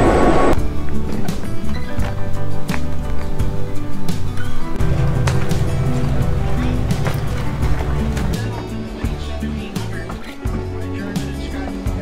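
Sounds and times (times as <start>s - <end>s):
background music with steady beat: 0.6s - 12.0s.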